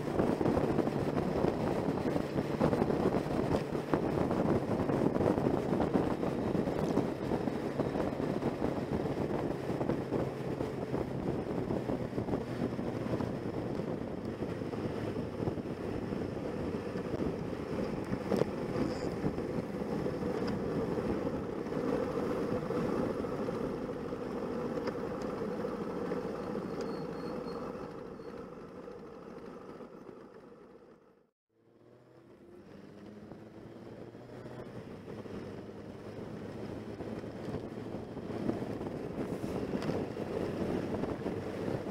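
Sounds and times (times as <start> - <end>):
wind rushing over microphone: 0.0 - 26.8, 32.5 - 41.9
motorcycle engine drone: 0.0 - 41.9.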